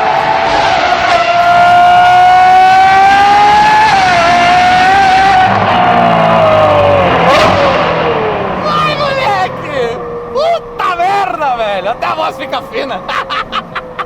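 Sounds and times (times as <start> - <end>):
car engine revving high: 0.0 - 14.0.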